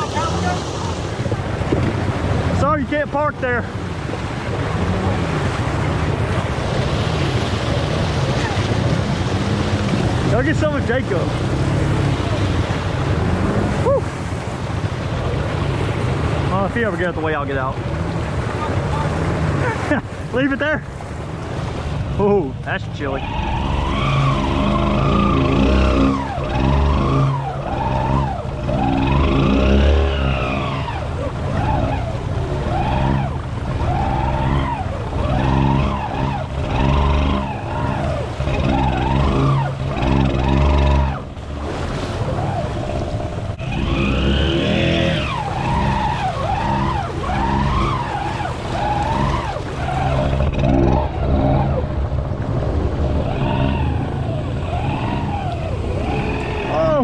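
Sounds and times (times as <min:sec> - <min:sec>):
atv engine revving: 0:00.0 - 0:57.0
vehicle pushing through muddy water: 0:00.0 - 0:57.0.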